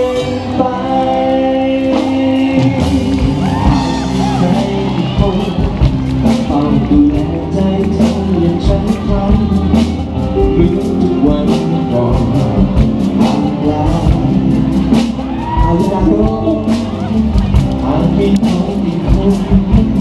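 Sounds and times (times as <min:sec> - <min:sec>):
electric bass: 0:00.0 - 0:20.0
keyboard: 0:00.0 - 0:20.0
live band music over a pa: 0:00.0 - 0:20.0
person singing: 0:00.0 - 0:20.0
steady drumbeat: 0:01.8 - 0:20.0.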